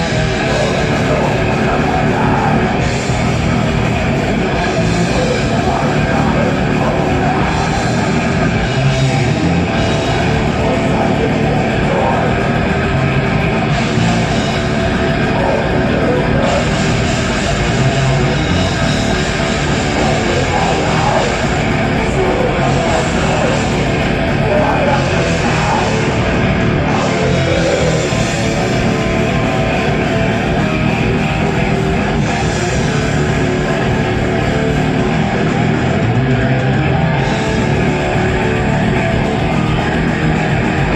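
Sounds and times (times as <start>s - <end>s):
heavy metal band playing live: 0.0s - 40.9s.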